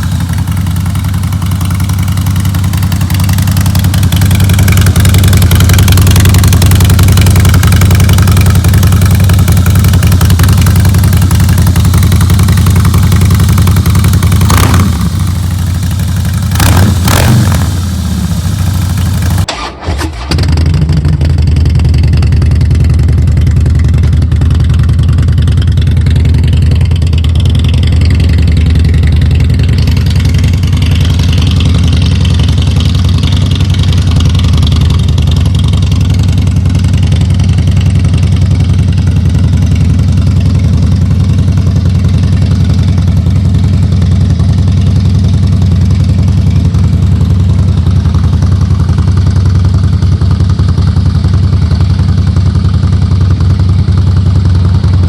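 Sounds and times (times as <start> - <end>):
motorcycle engine idling: 0.0 - 19.5, 20.5 - 55.0.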